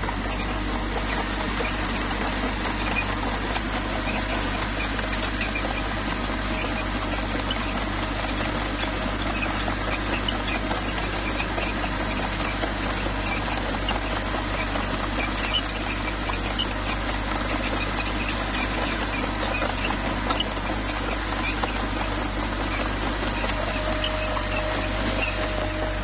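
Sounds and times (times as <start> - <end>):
bulldozer diesel engine running: 0.0 - 26.0
clicks and crackles of tracks and gravel: 0.0 - 26.0.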